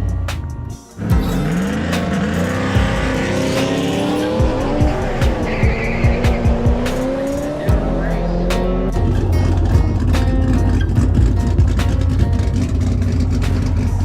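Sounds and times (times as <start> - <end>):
music: 0.0 - 14.0
race car engines accelerating: 1.0 - 14.0.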